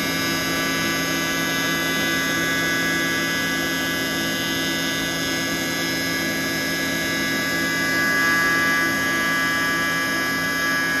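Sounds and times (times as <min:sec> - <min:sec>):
milling machine whine: 0:00.0 - 0:11.0.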